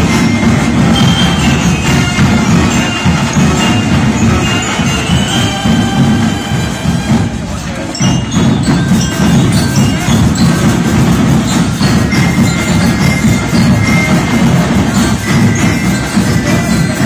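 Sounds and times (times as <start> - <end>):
bell-like mallet notes: 0.0 - 17.0
marching band playing: 0.0 - 17.0
pounding drums: 0.0 - 17.0.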